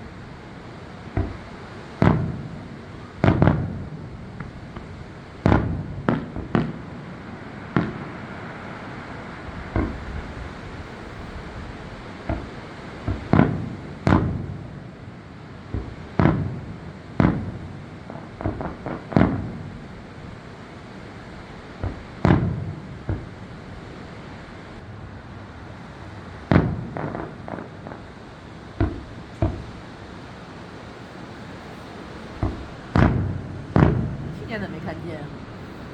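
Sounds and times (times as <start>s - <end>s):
fireworks bangs echoing: 0.0s - 24.0s, 25.4s - 35.9s.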